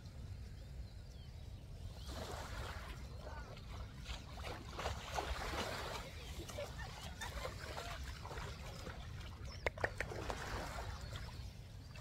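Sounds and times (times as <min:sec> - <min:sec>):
splashing in shallow water: 0:02.0 - 0:12.0.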